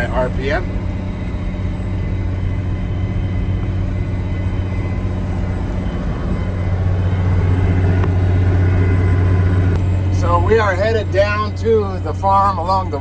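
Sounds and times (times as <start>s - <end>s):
tractor diesel engine drone: 0.0s - 13.0s.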